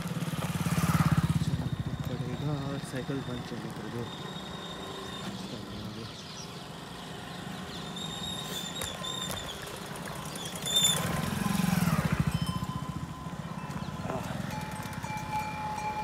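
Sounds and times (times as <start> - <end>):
motorcycles passing: 0.0 - 16.0.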